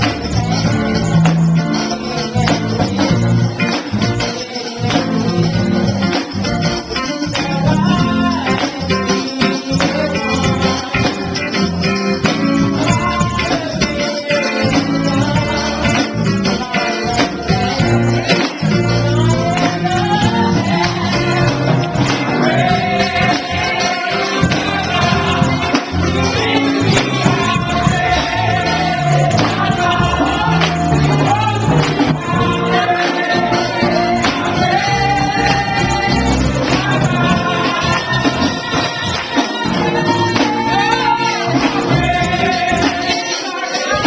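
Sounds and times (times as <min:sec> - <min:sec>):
band accompaniment: 0:00.0 - 0:44.0
group gospel singing: 0:00.0 - 0:44.0
tambourine: 0:00.0 - 0:44.0.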